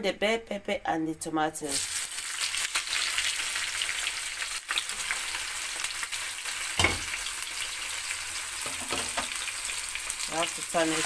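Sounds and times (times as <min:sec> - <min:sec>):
vegetables sizzling in oil: 0:01.6 - 0:11.0.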